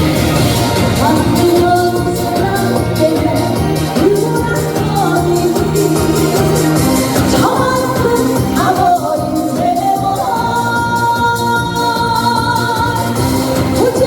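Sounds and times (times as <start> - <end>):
amplified backing music: 0.0 - 14.0
woman singing: 0.8 - 14.0.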